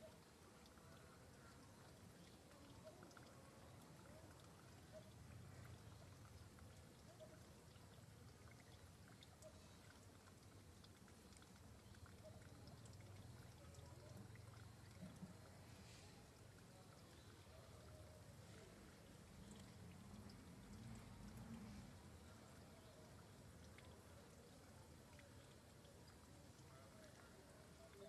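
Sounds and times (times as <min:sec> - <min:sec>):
faint low hum: 0:00.0 - 0:28.0
faint mid-pitched tones: 0:00.0 - 0:28.0
faint ticks: 0:00.0 - 0:28.0.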